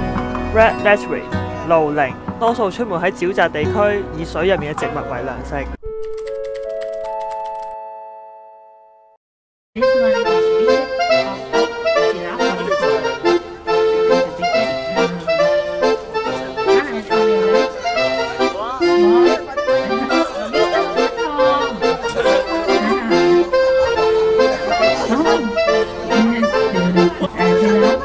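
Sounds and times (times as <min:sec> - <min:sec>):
instrumental background music: 0:00.0 - 0:05.8, 0:09.8 - 0:28.0.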